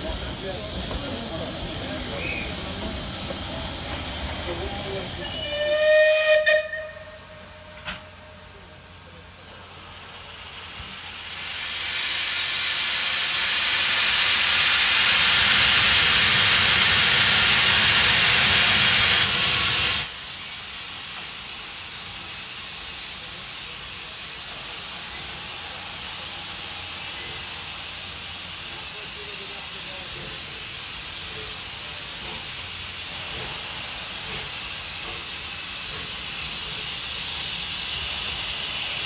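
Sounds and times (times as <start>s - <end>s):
steam locomotive hissing: 0.0s - 39.0s.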